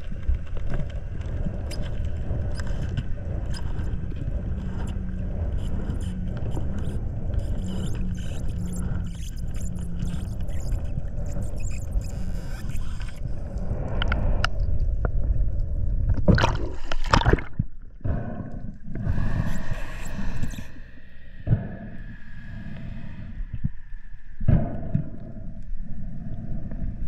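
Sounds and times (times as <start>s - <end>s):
underwater rumble and gurgling: 0.0s - 27.0s.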